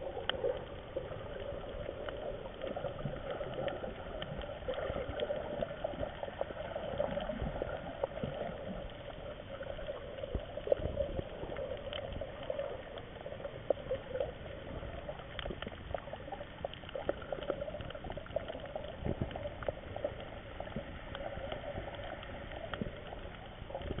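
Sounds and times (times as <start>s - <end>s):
sharp clicks and crackles: 0.0s - 24.0s.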